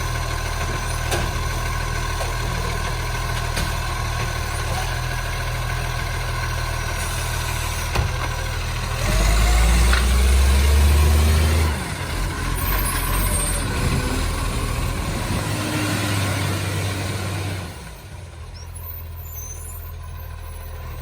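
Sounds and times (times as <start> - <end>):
garbage truck diesel engine: 0.0 - 21.0.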